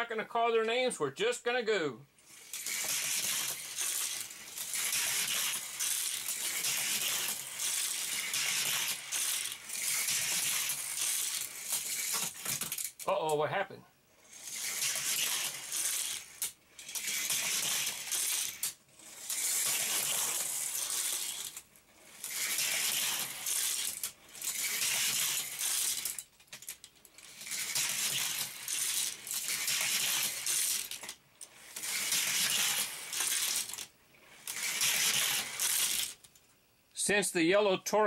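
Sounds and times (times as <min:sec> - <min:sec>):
toy cars clattering on plastic track: 0:02.2 - 0:13.2, 0:14.2 - 0:36.6.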